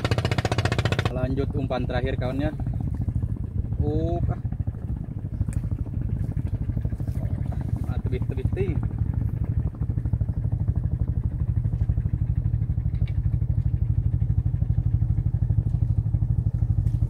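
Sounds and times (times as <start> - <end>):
small engine chugging: 0.0 - 17.0.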